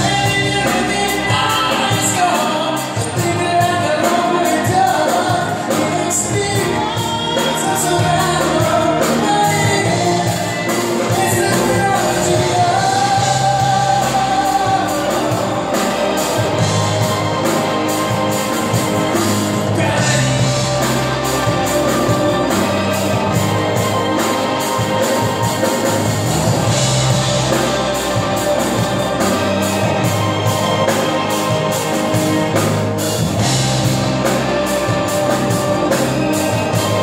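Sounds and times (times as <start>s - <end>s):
bass guitar: 0.0s - 37.0s
drum kit with cymbals: 0.0s - 37.0s
keyboards: 0.0s - 37.0s.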